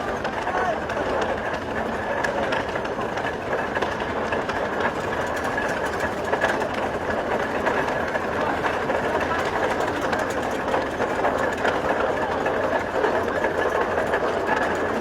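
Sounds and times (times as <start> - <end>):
tractor engine clattering: 0.0 - 15.0.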